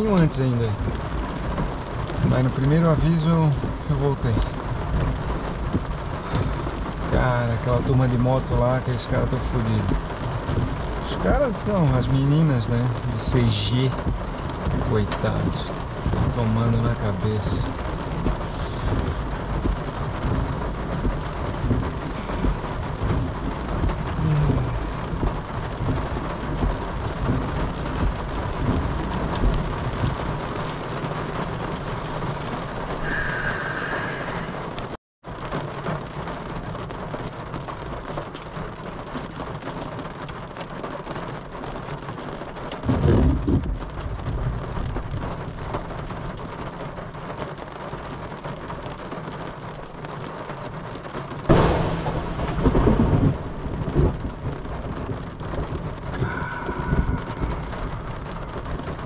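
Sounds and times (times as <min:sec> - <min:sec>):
low rumble of thunder: 0:00.0 - 0:38.5, 0:42.8 - 0:46.5, 0:51.2 - 0:59.0
rain and hail drumming on roof: 0:00.0 - 0:59.0.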